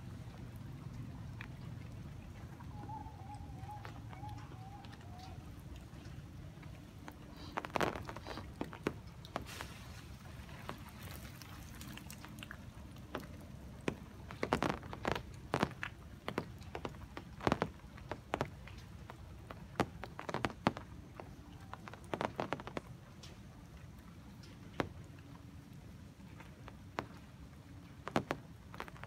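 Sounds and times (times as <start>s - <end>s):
low steady rumble: 0.0s - 29.0s
raindrops dripping from trees: 0.0s - 29.0s.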